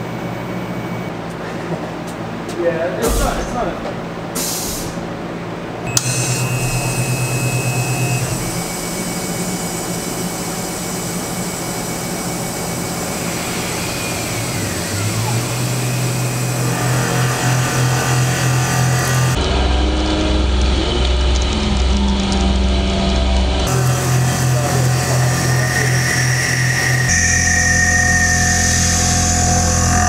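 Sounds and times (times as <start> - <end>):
low motor hum: 4.9 - 30.0
faint rising whine: 5.9 - 30.0.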